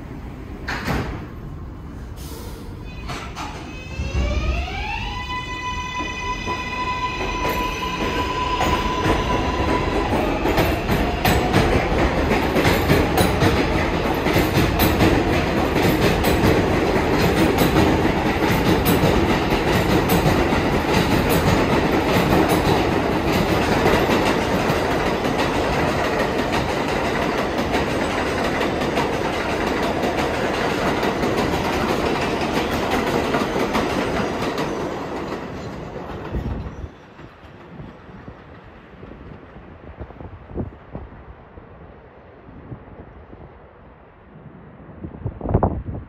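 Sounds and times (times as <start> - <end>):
subway train wheels clattering: 0.0 - 43.7.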